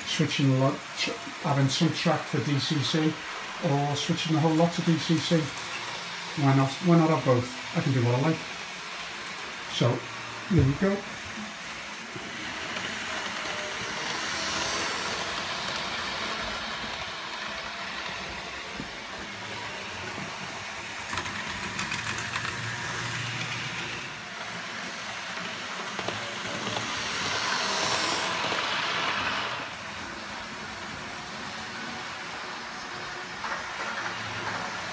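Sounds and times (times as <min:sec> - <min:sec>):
model train motors whirring: 0:00.0 - 0:34.9.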